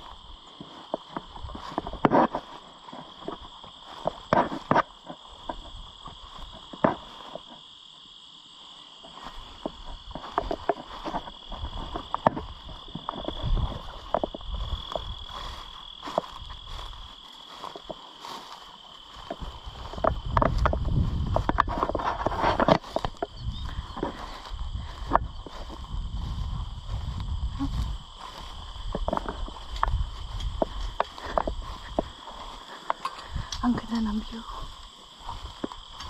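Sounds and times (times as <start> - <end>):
footsteps through dry grass: 0.0 - 36.0
insects chirring: 0.0 - 36.0.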